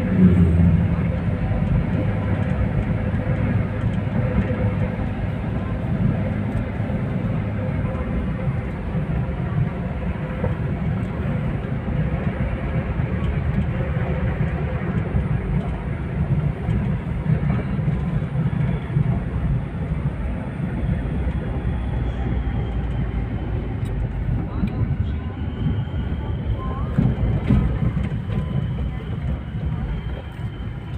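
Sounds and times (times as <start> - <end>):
car engine and road noise: 0.0 - 30.9.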